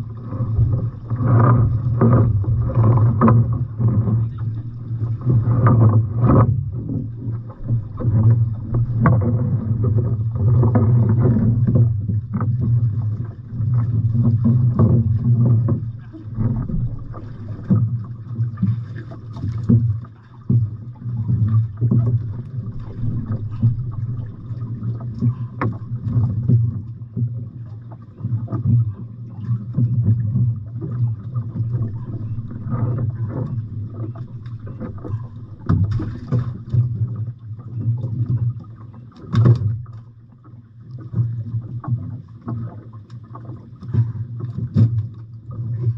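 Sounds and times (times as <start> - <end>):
boat engine droning: 0.0 - 45.9
water: 0.0 - 45.9
wind: 0.0 - 45.9.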